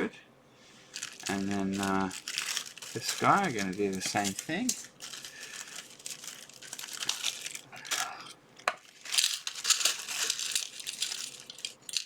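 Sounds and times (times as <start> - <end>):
plastic bag crinkling: 0.9 - 12.0.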